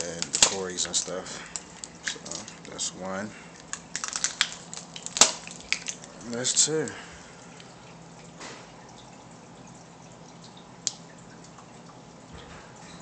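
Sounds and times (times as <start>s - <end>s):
aquarium water bubbling: 0.0s - 13.0s
faint steady hum: 0.0s - 13.0s.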